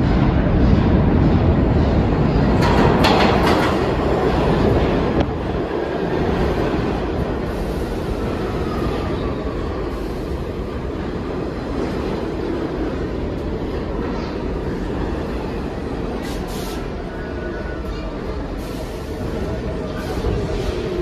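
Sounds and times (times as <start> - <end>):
subway train wheels rumbling: 0.0 - 21.0.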